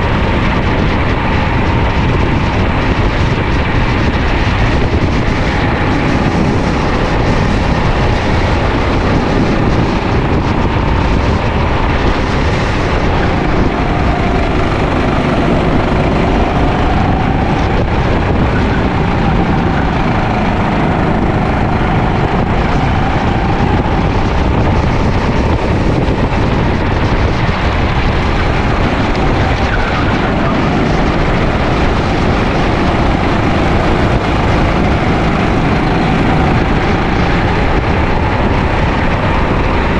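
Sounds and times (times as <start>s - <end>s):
kart engine racing: 0.0s - 39.9s
road rumble: 0.0s - 39.9s
wind noise: 0.0s - 39.9s.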